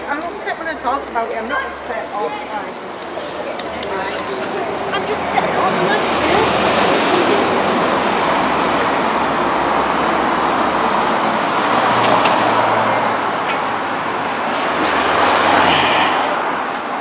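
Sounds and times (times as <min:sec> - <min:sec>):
tyres and wind rushing: 0:00.0 - 0:17.0
vehicle engines humming: 0:00.0 - 0:17.0.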